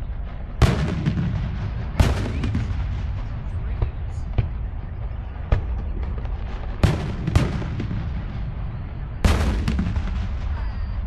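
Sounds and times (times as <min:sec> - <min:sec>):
fireworks bangs: 0:00.0 - 0:11.0
low rumble of explosions: 0:00.0 - 0:11.0.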